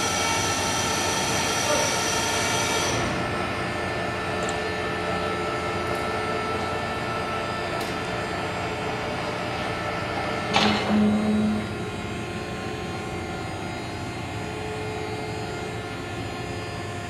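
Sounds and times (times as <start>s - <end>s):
machinery hum with held tones: 0.0s - 17.0s.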